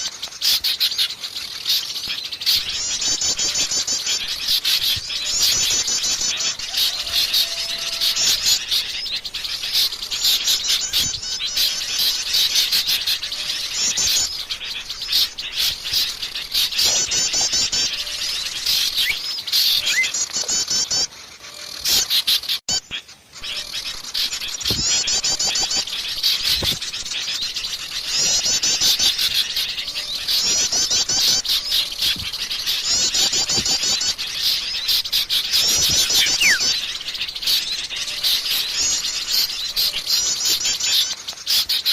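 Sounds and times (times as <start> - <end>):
birds singing in high trills: 0.0 - 41.9.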